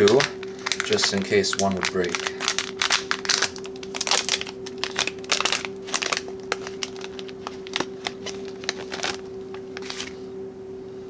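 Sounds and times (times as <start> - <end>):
plastic bag crinkling: 0.0 - 10.2
steady low hum: 0.0 - 11.0.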